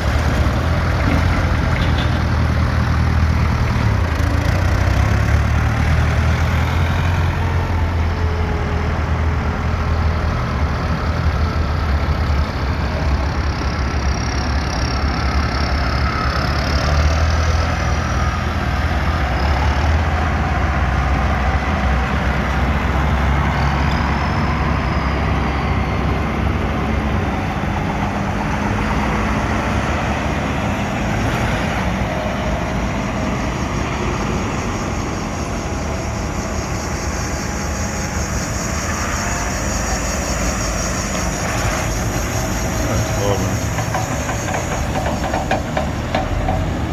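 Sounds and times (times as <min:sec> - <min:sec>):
tractor engines rumbling: 0:00.0 - 0:46.9.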